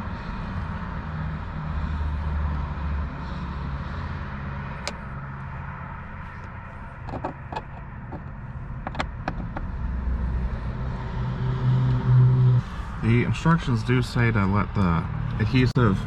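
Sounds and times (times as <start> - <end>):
vehicle hum: 0.0 - 16.0.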